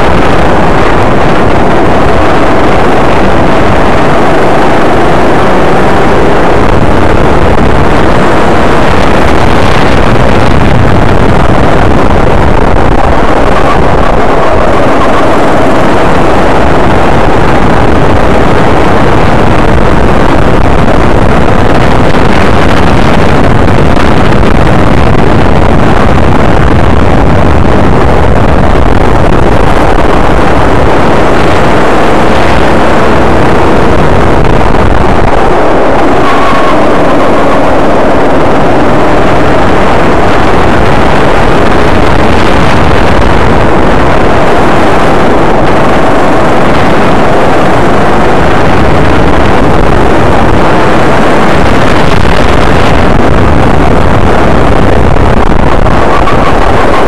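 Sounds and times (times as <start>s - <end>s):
rush of noise: 0.0s - 57.0s.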